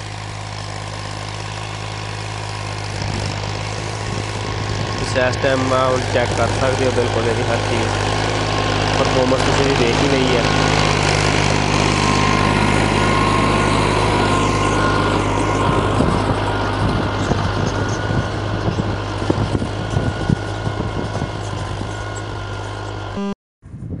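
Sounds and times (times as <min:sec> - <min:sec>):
tractor diesel engine under load: 0:00.0 - 0:23.2.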